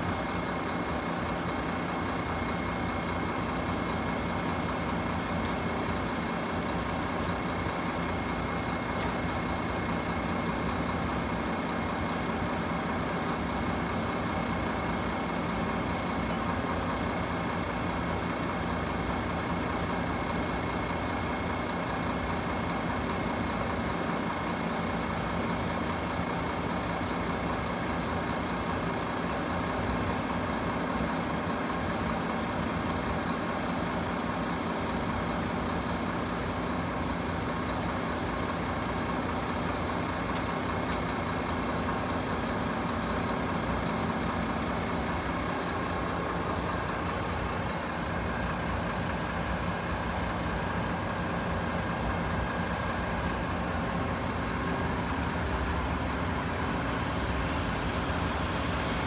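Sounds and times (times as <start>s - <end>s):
vehicle engines idling: 0.0s - 59.0s.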